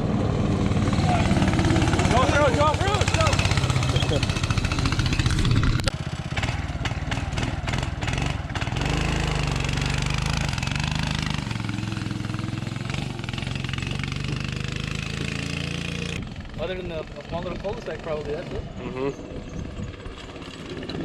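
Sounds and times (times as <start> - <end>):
go-kart engine revving: 0.0 - 21.0.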